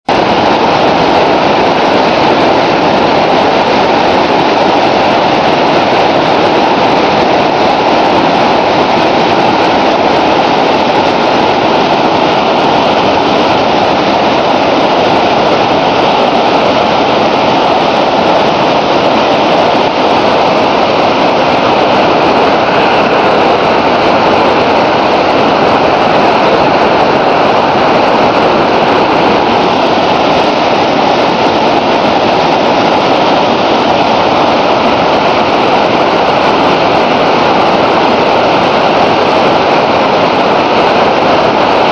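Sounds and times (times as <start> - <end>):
river rapids rushing: 0.1 - 41.9.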